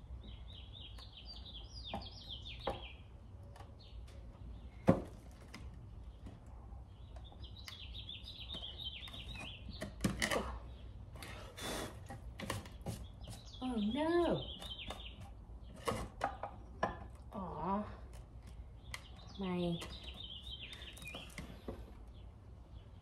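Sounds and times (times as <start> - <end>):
bird chirping: 0.0 - 4.9, 6.0 - 11.8, 12.8 - 17.8, 18.5 - 23.0.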